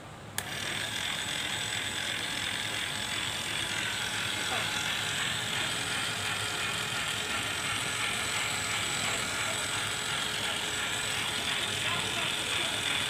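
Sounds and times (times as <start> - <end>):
small motor whirring: 0.4 - 13.0.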